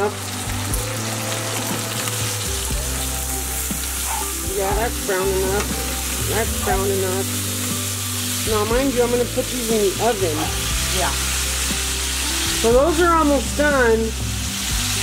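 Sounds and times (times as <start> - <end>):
pork chops sizzling in a pan: 0.0 - 15.0.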